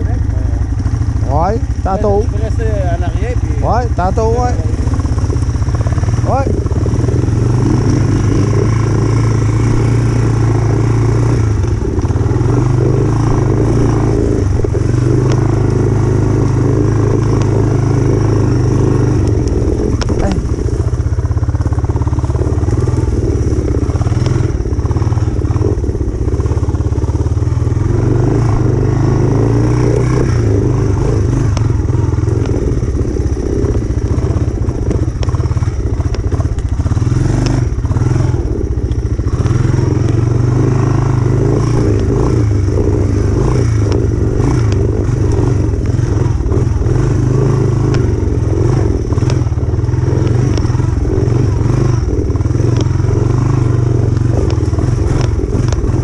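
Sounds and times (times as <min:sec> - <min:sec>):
motor trike engine running: 0:00.0 - 0:56.0.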